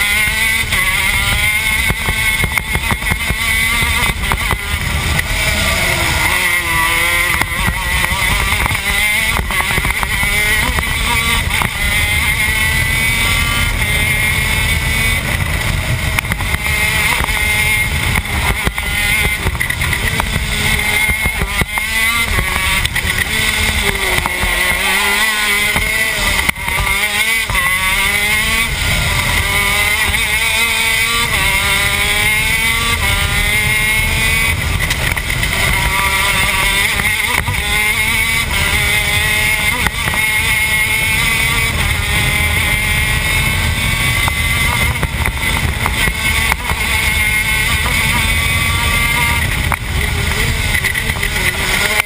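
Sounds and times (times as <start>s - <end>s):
two-stroke kart engine racing: 0.0s - 52.0s.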